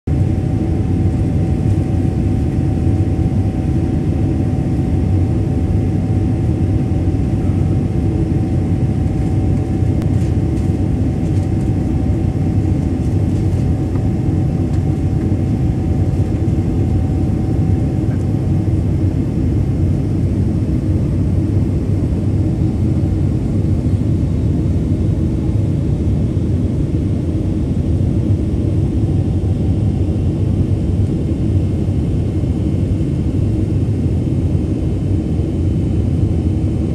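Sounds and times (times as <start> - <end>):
jet engines rumbling in cabin: 0.1 - 36.9.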